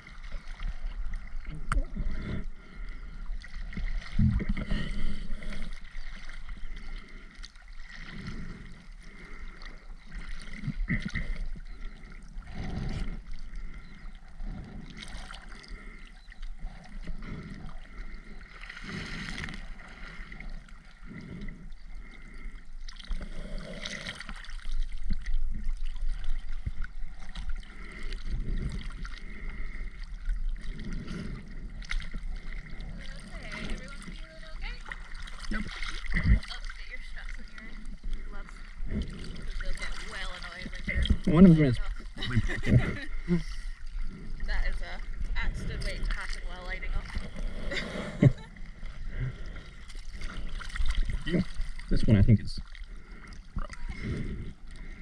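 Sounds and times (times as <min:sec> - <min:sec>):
low steady rumble: 0:00.0 - 0:55.0
water gurgling and sloshing: 0:00.0 - 0:55.0.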